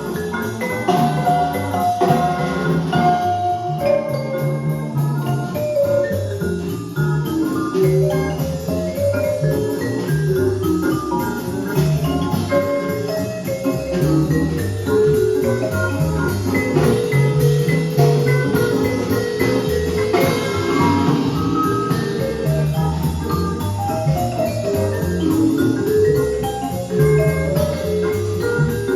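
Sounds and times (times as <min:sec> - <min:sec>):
marimba music with drums: 0:00.0 - 0:28.9.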